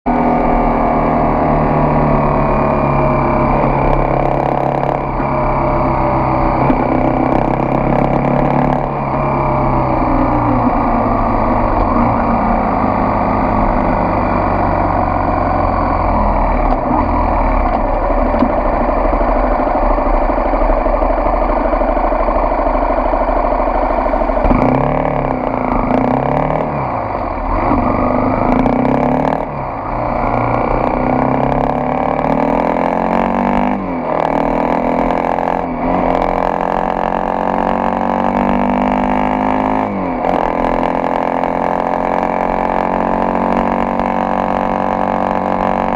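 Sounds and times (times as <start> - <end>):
motorcycle engine revving: 0.1 - 45.9.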